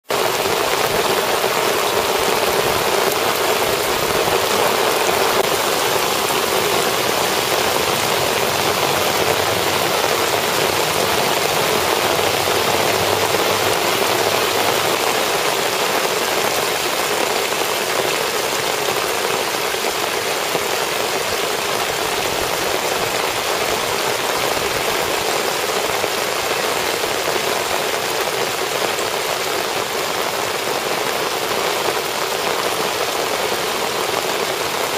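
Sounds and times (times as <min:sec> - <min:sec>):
heavy rain on standing water: 0:00.0 - 0:34.9.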